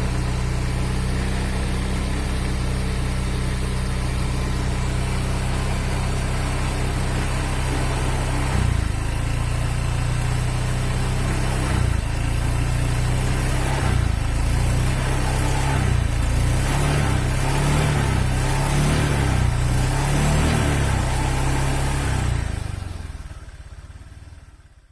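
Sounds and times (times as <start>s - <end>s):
scooter engine idling roughly: 0.0s - 24.9s.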